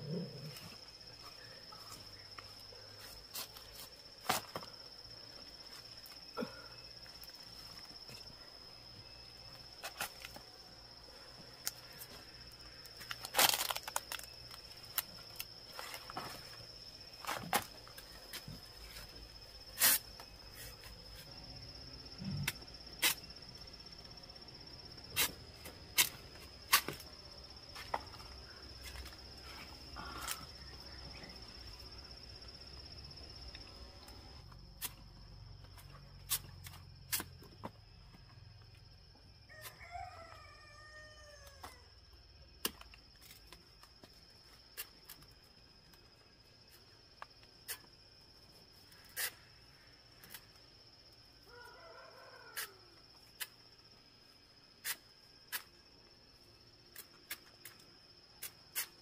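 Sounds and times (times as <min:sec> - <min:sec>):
high insect buzz: 0:00.0 - 0:59.0.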